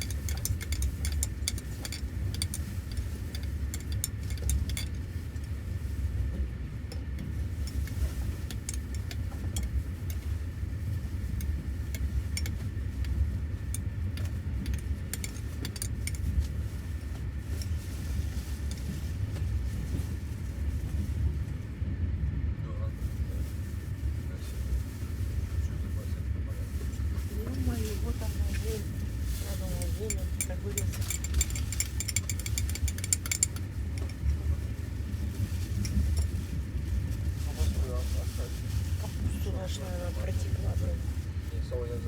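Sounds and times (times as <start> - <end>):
train carriage low rumble: 0.0 - 42.0.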